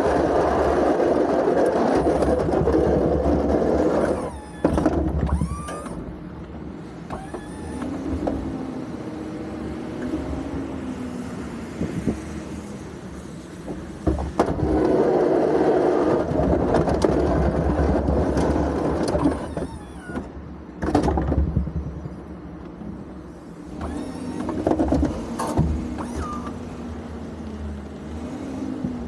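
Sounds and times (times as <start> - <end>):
plow blade scraping pavement: 0.0 - 29.0.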